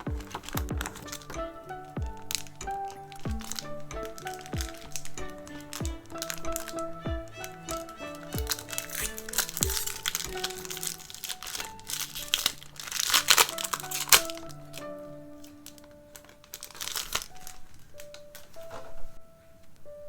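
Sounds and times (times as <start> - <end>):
plastic foil wrapper crinkling: 0.0 - 1.4, 2.1 - 19.0
soft background music: 0.0 - 20.0.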